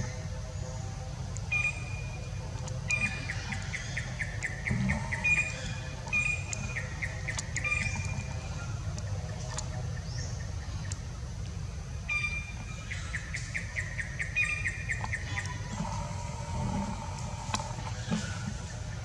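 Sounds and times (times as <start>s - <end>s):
songbird singing: 0.0s - 19.0s
steady low rumble: 0.0s - 19.0s.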